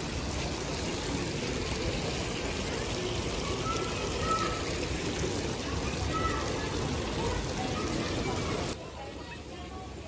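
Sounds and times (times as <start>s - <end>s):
water pouring into fountain pool: 0.0s - 10.0s.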